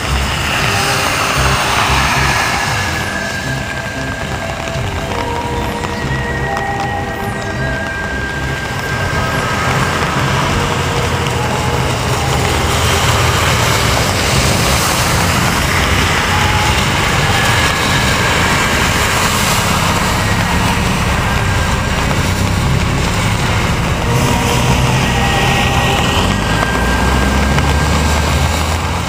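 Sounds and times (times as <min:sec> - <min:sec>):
heavy rain: 0:00.0 - 0:29.0
tyres on wet pavement: 0:00.0 - 0:29.0.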